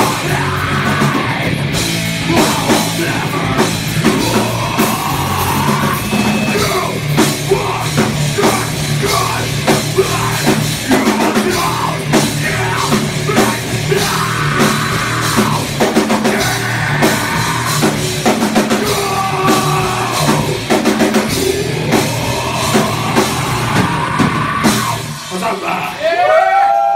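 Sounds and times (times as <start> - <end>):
drum kit pounding beat: 0.0 - 26.9
electric guitars: 0.0 - 26.9
rock band playing live: 0.0 - 26.9.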